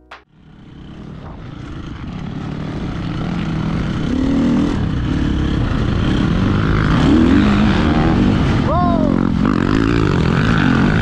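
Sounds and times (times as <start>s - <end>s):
motocross bike engine revving: 0.3s - 11.0s.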